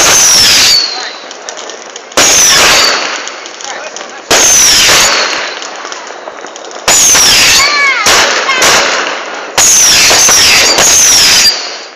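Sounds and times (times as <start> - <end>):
loud firework blasts: 0.0 - 11.9.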